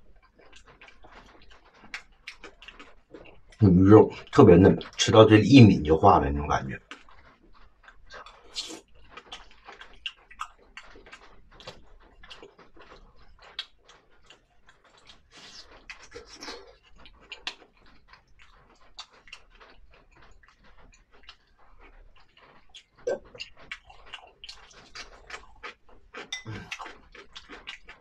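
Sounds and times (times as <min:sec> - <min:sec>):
wet chewing and lip smacks: 0:00.0 - 0:05.0, 0:06.8 - 0:28.0.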